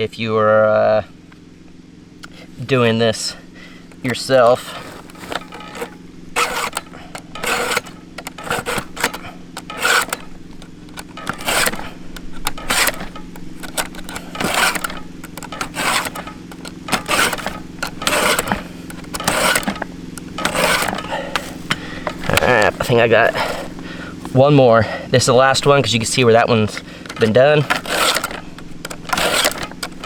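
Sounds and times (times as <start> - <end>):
steady low hum: 0.0 - 30.0
file rasping on chainsaw chain: 4.0 - 30.0.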